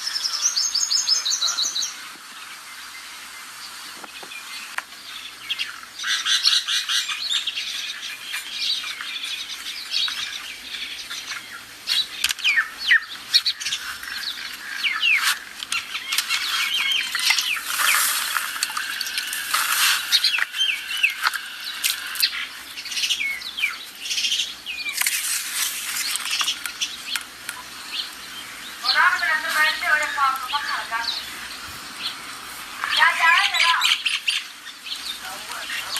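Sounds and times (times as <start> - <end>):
flock of small birds chirping: 0.0 - 35.9.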